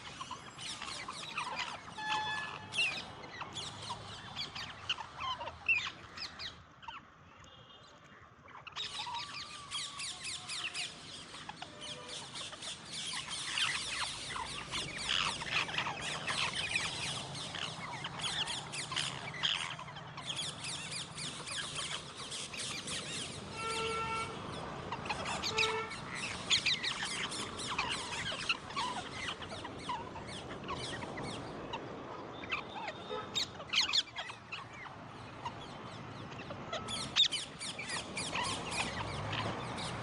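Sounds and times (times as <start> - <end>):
parrots calling and chattering: 0.0 - 7.1, 8.4 - 40.0.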